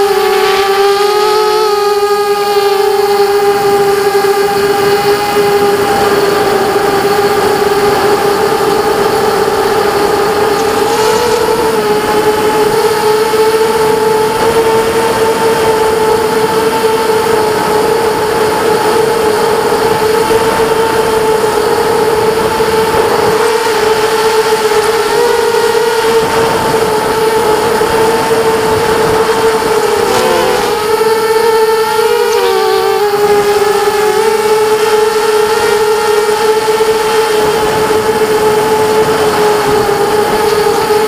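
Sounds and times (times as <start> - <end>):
quadcopter motors whining: 0.0 - 41.0.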